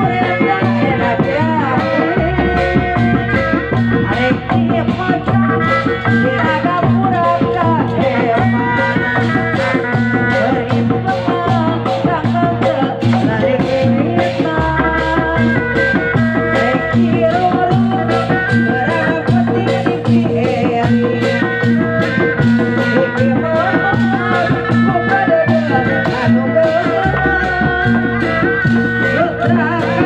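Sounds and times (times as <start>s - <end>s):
bass line: 0.0s - 30.0s
dense drumming and percussion: 0.0s - 30.0s.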